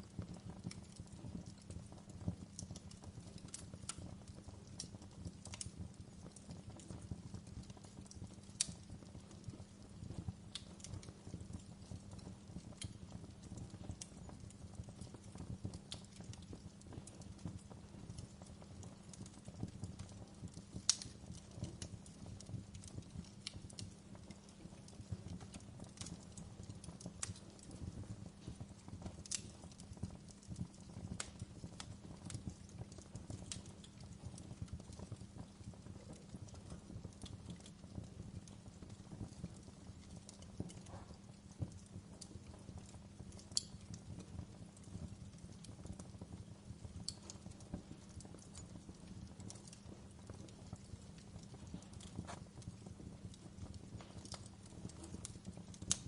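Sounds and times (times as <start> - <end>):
fire crackling and popping: 0.0 - 56.0
log fire rumbling: 0.0 - 56.0.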